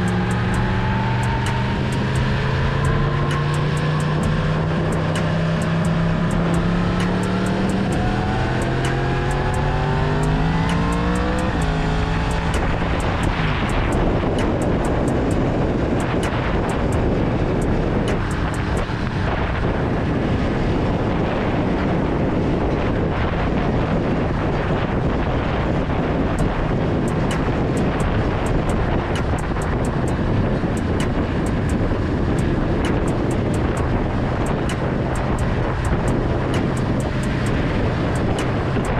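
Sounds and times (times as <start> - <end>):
motorcycle engine accelerating: 0.0 - 38.9
wind rushing over microphone: 0.0 - 38.9.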